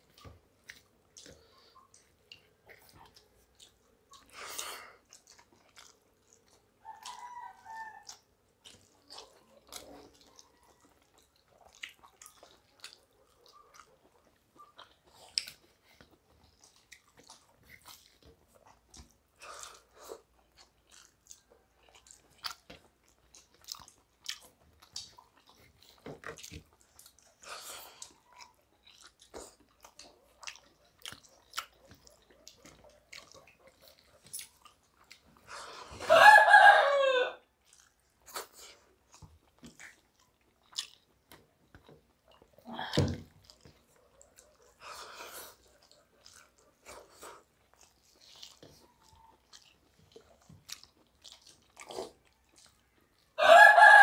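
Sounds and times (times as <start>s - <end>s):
chewing and lip-smacking: 0.0s - 36.5s, 37.4s - 53.4s
wet squishes of rice: 0.0s - 53.4s.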